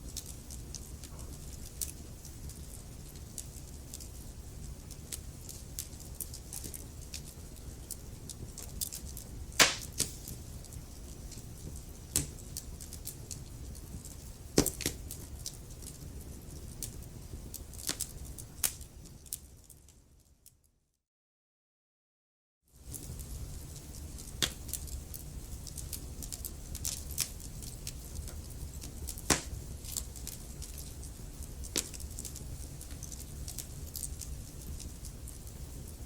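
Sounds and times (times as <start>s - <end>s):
fire snapping and popping: 0.0s - 19.9s, 22.8s - 36.0s
wood fire crackling: 0.0s - 20.6s, 22.8s - 36.0s.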